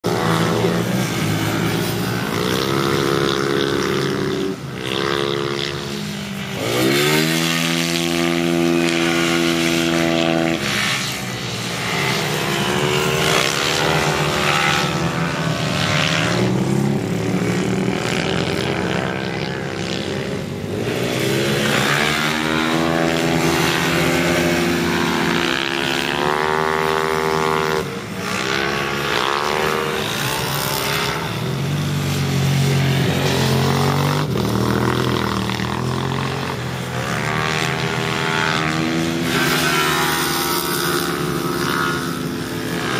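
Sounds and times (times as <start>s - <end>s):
scooter engines revving: 0.0s - 42.9s.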